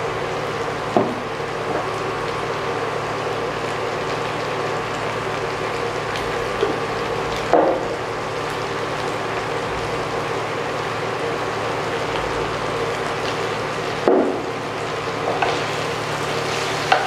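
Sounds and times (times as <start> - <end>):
stir-fry sizzling in a pan: 0.0 - 17.0.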